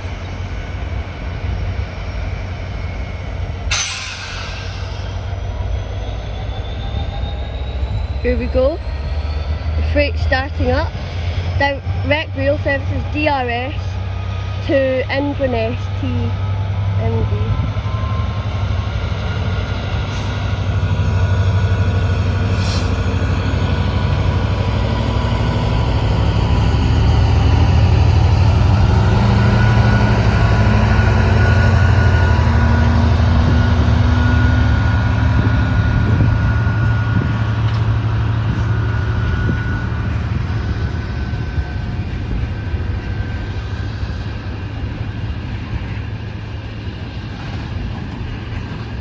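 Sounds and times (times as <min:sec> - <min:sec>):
diesel locomotive engine droning: 0:00.0 - 0:49.0.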